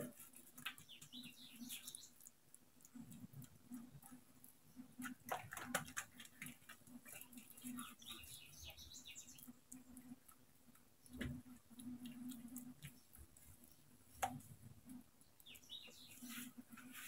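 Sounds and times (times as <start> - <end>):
dough handling ticks: 0.0 - 17.0.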